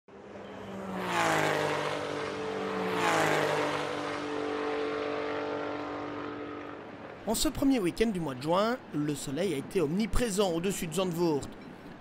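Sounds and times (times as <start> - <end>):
race car engines passing: 0.1 - 11.6.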